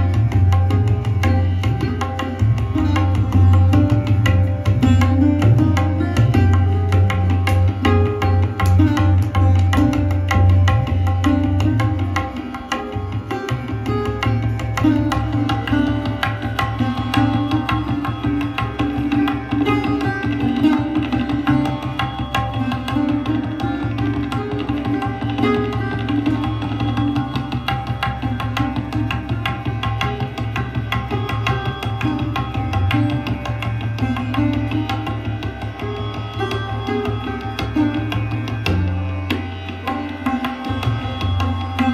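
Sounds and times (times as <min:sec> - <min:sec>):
sarod rapid plucked strokes: 0:00.0 - 0:41.9
tabla: 0:00.0 - 0:41.9.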